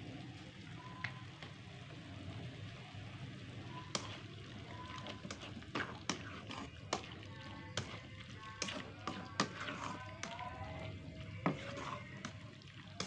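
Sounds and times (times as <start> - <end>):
beef sizzling in a pan: 0.0 - 13.0.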